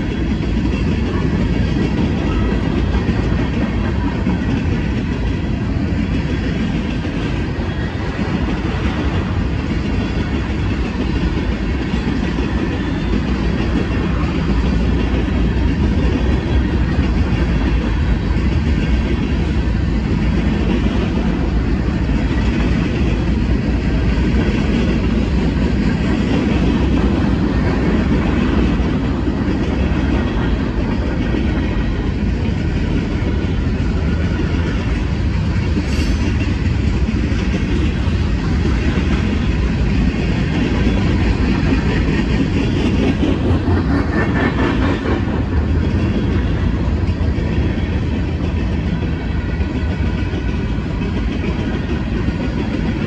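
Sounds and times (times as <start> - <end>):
steel wheels rolling on rails: 0.0 - 53.0.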